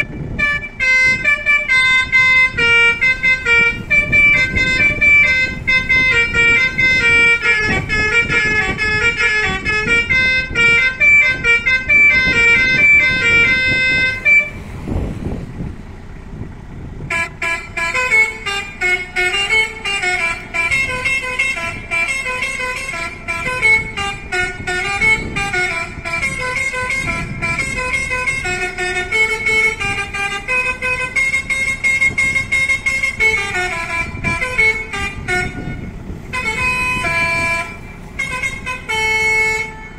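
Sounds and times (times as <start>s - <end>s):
electric musical horn tune: 0.0s - 14.6s, 17.1s - 39.9s
low rumbling noise: 0.0s - 39.9s.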